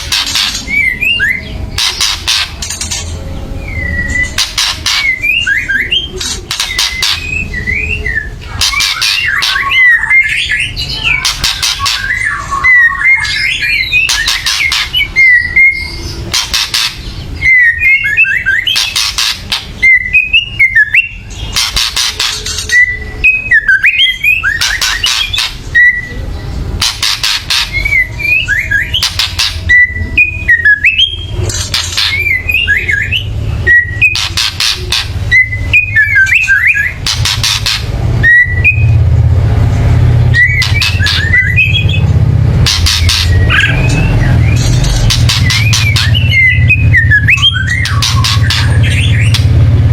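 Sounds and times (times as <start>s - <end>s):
bird harsh rattling calls: 0.0s - 3.1s, 3.8s - 26.0s, 26.8s - 38.9s, 40.2s - 49.8s
bird whistled notes: 3.6s - 26.2s, 26.8s - 39.0s, 40.3s - 42.1s, 42.7s - 49.6s.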